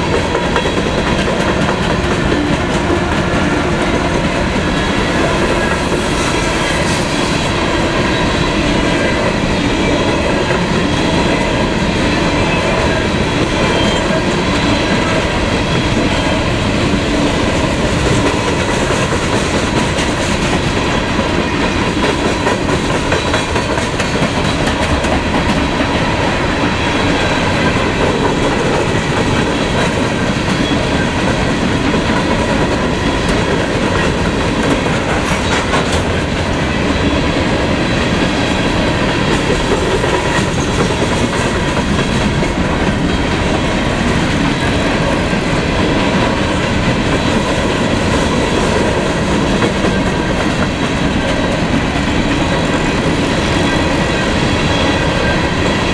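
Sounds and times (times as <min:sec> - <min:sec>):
train wheels clattering on rails: 0:00.0 - 0:55.9.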